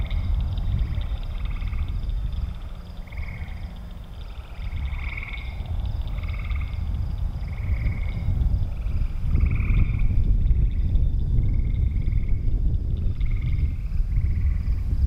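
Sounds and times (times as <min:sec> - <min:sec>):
frogs trilling: 0:00.0 - 0:15.0
low rumble: 0:00.0 - 0:15.0.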